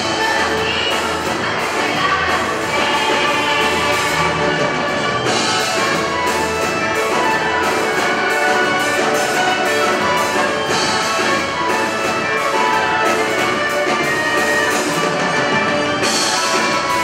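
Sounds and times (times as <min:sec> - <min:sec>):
orchestra playing with prominent brass: 0:00.0 - 0:17.0.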